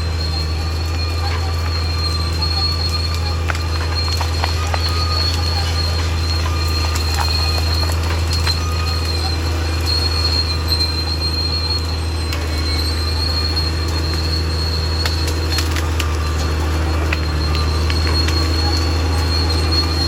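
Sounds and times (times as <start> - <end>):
bulldozer diesel engine drone: 0.0 - 20.0
high metallic squeal: 0.0 - 20.0
steel tracks clanking: 0.0 - 20.0.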